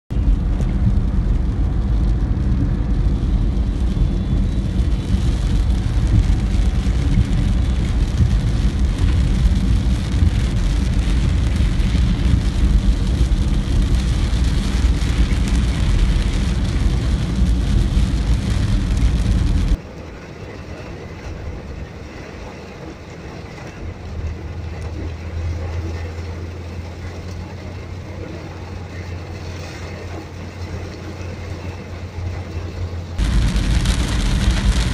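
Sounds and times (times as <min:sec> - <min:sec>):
low engine hum: 0:00.1 - 0:34.9
road and wind noise in car: 0:00.1 - 0:34.9.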